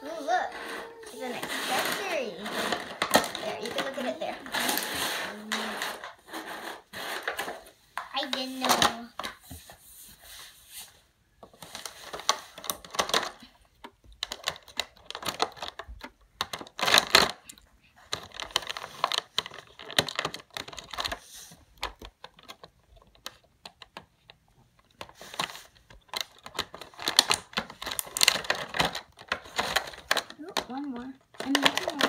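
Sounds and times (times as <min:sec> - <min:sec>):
plastic packaging clicking and crinkling: 0:00.3 - 0:09.5, 0:11.4 - 0:32.0.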